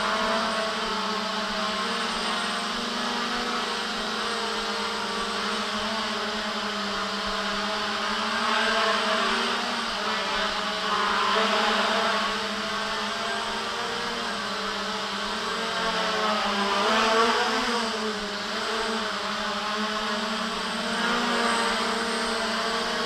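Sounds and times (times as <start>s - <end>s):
quadcopter motors buzzing: 0.0s - 23.0s.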